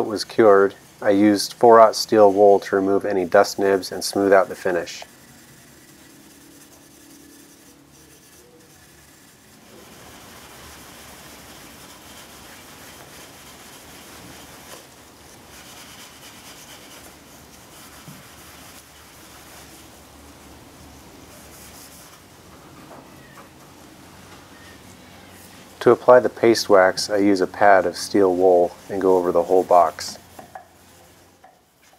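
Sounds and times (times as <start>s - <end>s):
steel wool rubbing on wood: 0.0s - 31.9s.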